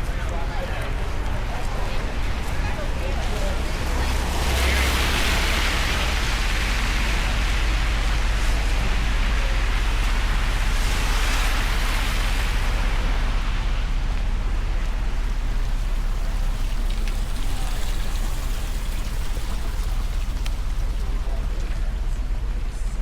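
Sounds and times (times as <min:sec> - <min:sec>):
low rumble: 0:00.0 - 0:23.0
rain hissing: 0:01.5 - 0:22.6.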